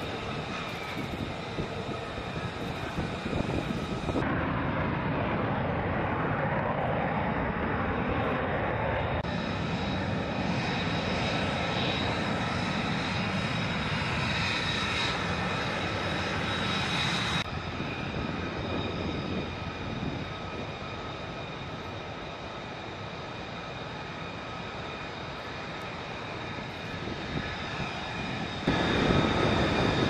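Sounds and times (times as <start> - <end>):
jet engine roar with whine: 0.0 - 30.0.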